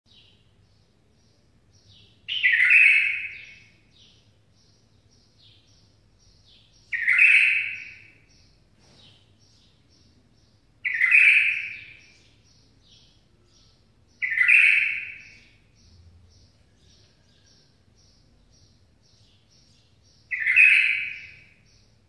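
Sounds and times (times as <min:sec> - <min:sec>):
faint bird chirps: 0:00.1 - 0:22.0
songbird singing: 0:00.1 - 0:22.0.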